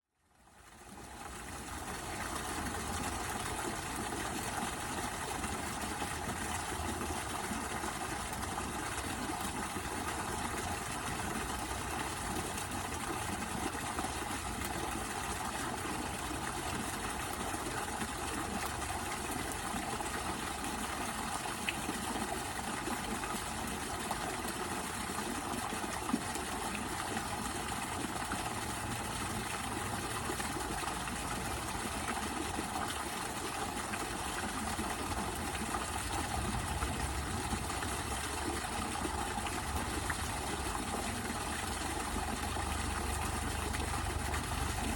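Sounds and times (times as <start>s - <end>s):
waterfall splashing into pool: 0.7s - 44.9s.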